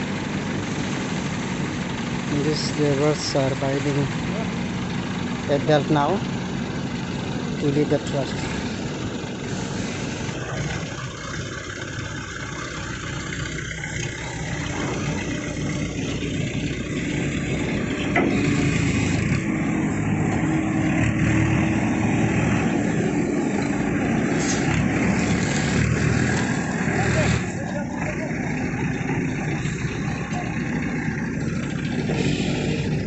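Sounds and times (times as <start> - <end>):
diesel crane engine running: 0.0 - 33.0.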